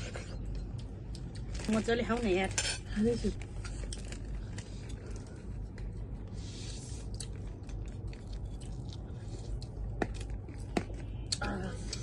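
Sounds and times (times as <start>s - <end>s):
wet chewing of food: 0.6s - 1.6s, 3.4s - 12.0s.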